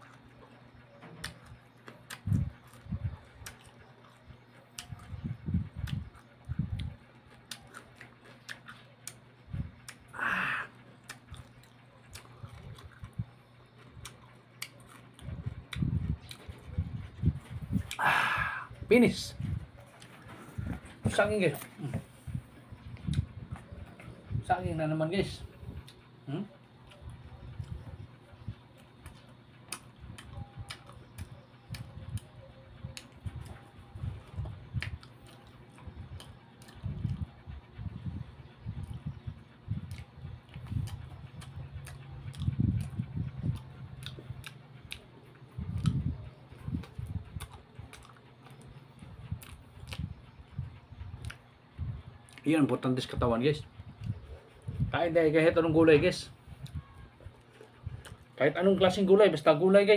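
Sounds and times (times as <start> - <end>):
man chewing with mouth open: 0.0 - 59.6.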